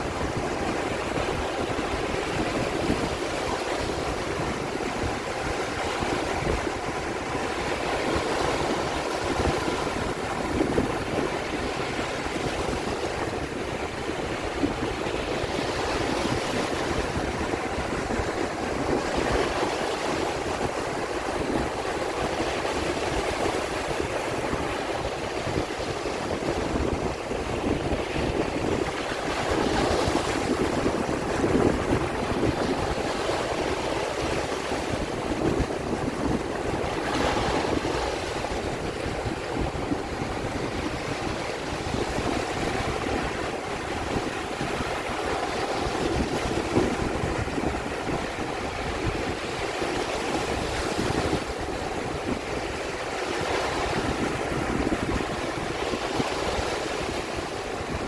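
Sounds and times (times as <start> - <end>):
sea waves surf: 0.0 - 58.0.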